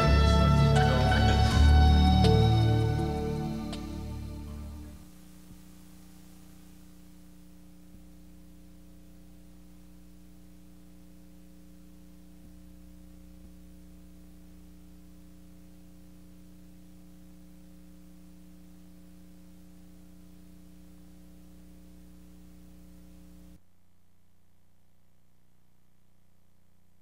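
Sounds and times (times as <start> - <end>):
videotape hiss: 0.0 - 23.6
low electrical hum: 0.0 - 27.0.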